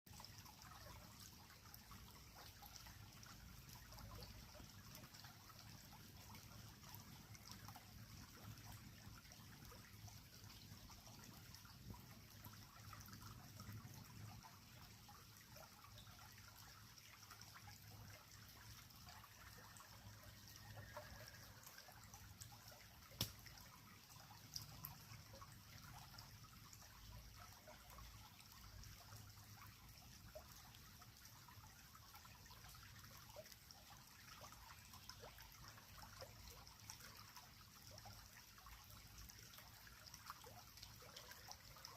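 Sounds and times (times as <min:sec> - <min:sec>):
creek trickling: 0:00.1 - 0:41.9.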